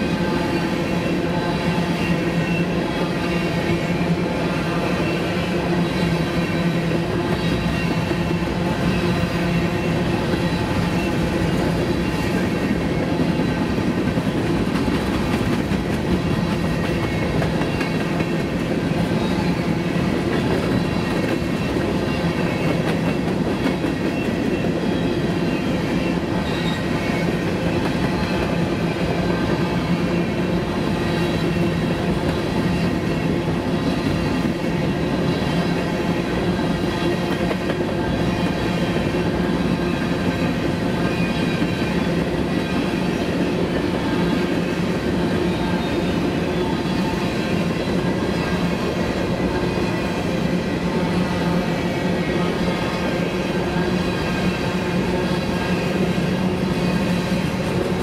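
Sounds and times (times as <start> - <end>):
clickety-clack of rails: 0.0 - 58.0
train wheels rumbling: 0.0 - 58.0.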